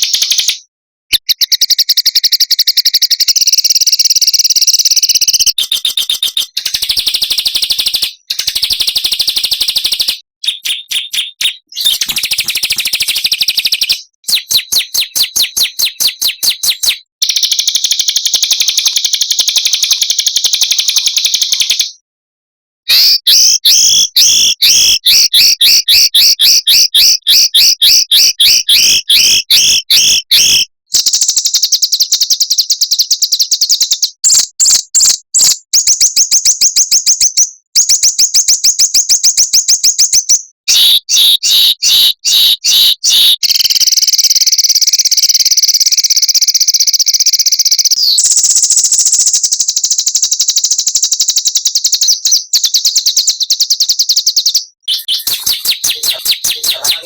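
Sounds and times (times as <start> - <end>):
recorded songbirds singing trills: 0.0 - 22.0, 22.9 - 57.0.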